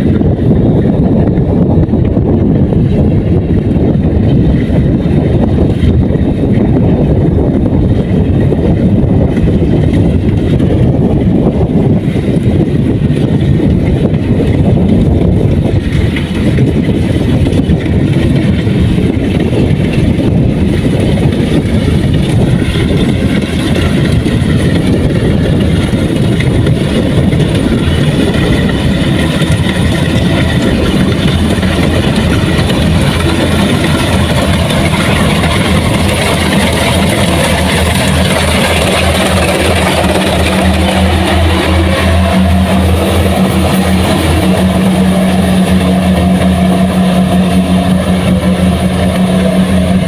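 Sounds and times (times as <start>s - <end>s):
diesel engine of farm machinery: 0.0s - 50.0s.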